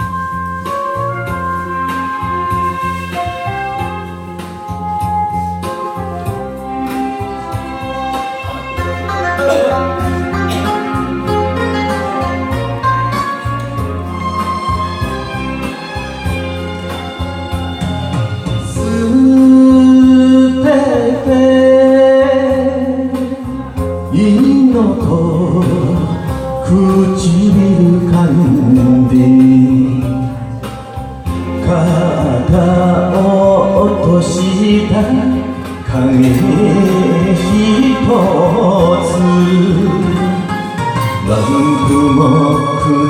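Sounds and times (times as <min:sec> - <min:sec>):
slow sung melody with band: 0:00.0 - 0:43.0.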